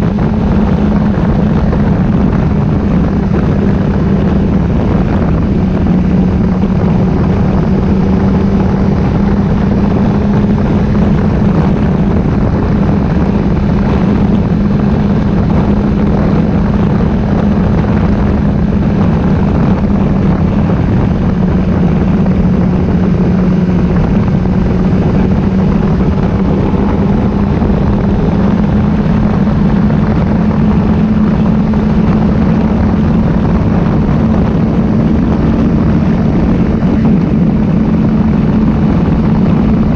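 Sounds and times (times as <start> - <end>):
motorcycle engine cruising: 0.0 - 39.9
rushing noise: 0.0 - 39.9.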